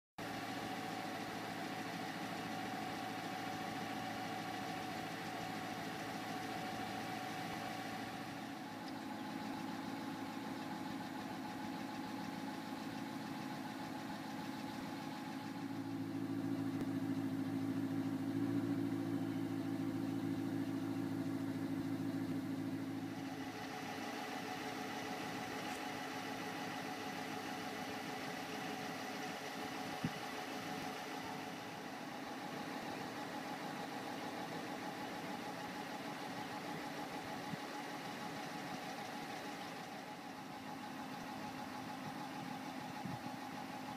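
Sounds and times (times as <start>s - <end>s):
car engine idling: 0.2s - 43.9s.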